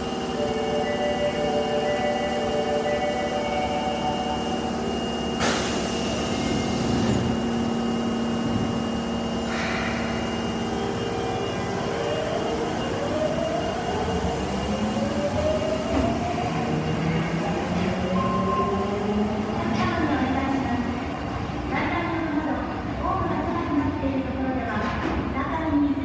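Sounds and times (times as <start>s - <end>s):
subway train motor tones: 0.0s - 24.4s.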